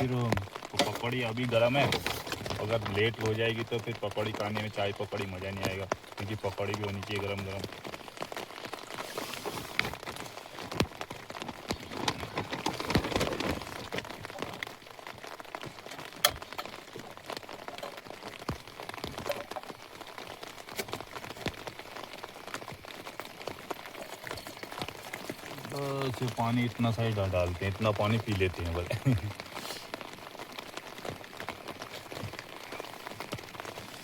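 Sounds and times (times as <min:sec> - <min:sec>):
rain on a tent: 0:00.0 - 0:34.0.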